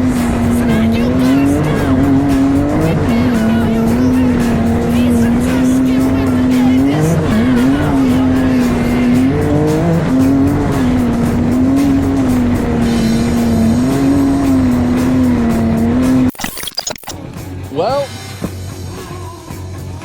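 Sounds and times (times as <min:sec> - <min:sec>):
vehicle engine running hard: 0:00.0 - 0:16.4, 0:17.3 - 0:20.0.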